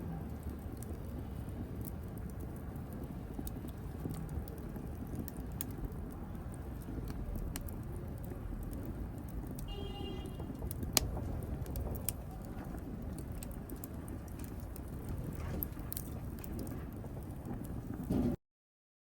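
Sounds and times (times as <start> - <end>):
wood fire crackling: 0.0 - 18.4
loud pop from fire: 0.1 - 18.4.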